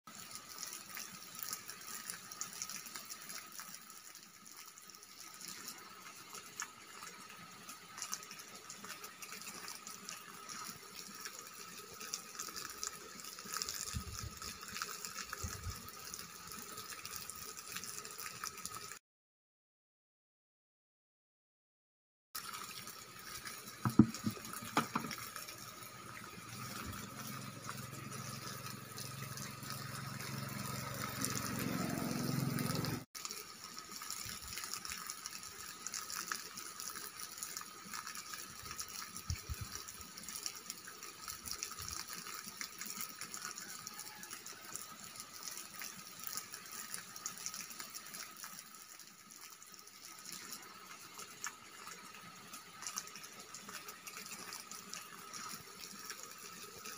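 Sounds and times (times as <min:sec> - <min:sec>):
running water: 0:00.1 - 0:19.0, 0:22.4 - 0:56.9
water pouring into plastic bucket: 0:00.1 - 0:19.0, 0:22.4 - 0:56.9.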